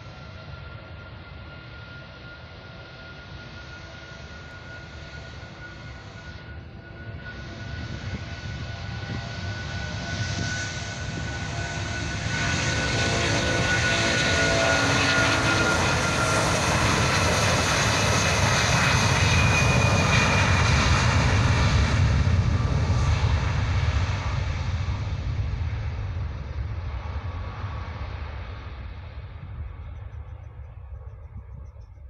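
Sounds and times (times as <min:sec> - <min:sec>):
jet engines at takeoff power: 0:00.0 - 0:32.0.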